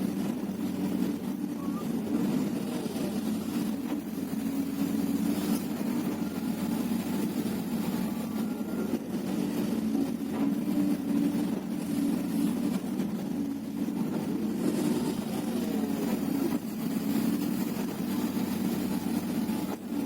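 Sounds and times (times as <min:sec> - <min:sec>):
excavator diesel engine humming: 0:00.0 - 0:20.0.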